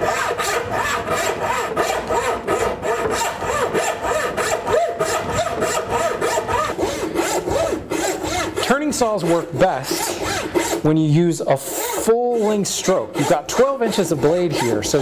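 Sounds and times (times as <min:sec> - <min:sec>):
hand saw cutting wood: 0:00.0 - 0:15.0.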